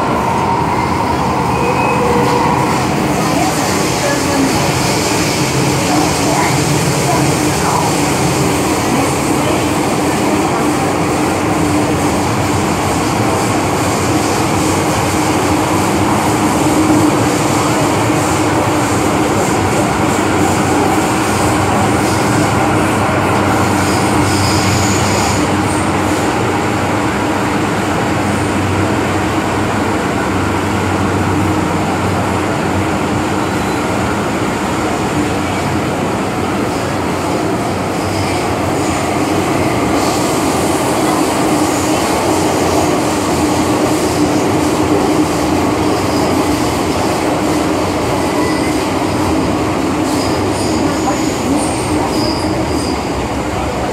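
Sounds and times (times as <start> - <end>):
subway train rumbling in tunnel: 0.0 - 53.9.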